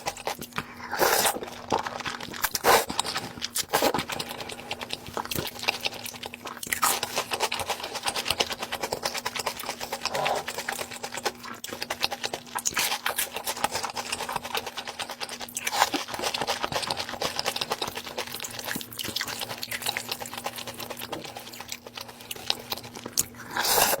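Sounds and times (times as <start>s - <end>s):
chewing and crunching food: 0.0s - 24.0s.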